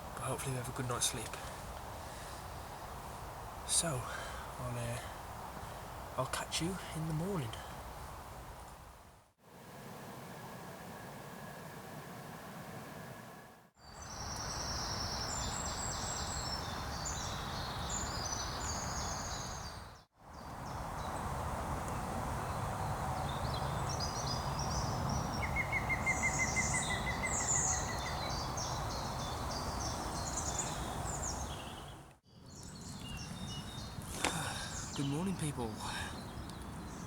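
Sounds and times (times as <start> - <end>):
songbirds singing: 0.0 - 8.0, 13.8 - 37.0
steady background hiss: 0.0 - 19.8, 20.6 - 37.0.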